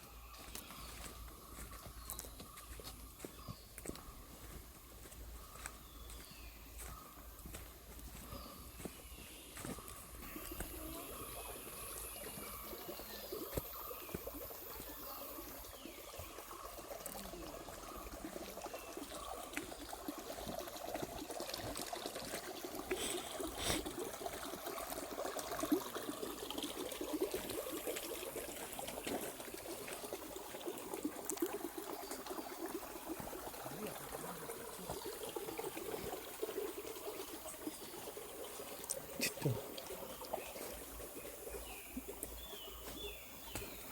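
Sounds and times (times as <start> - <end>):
water trickling and splashing: 0.0 - 43.9.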